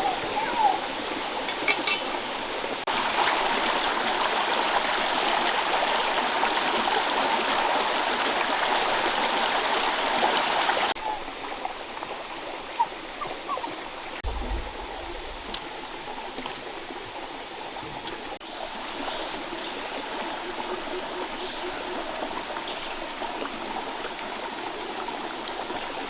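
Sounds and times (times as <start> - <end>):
rushing water stream: 0.0 - 26.0.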